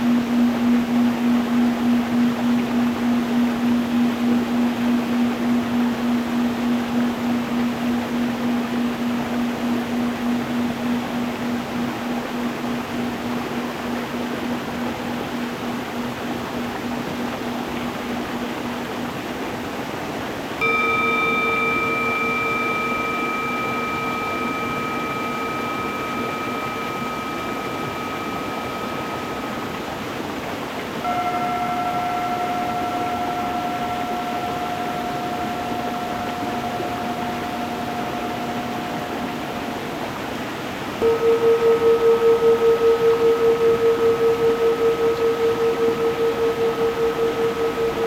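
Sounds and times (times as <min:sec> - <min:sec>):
singing bowls ringing: 0:00.0 - 0:19.4, 0:20.6 - 0:48.0
stream rushing: 0:00.0 - 0:48.0.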